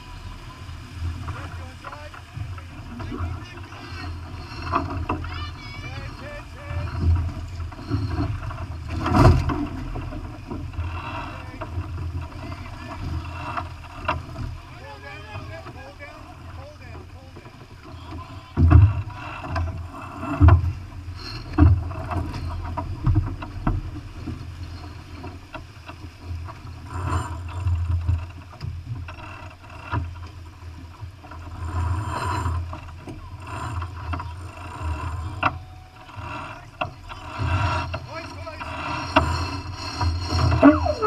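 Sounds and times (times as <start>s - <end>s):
water splashing along hull: 0.0s - 41.0s.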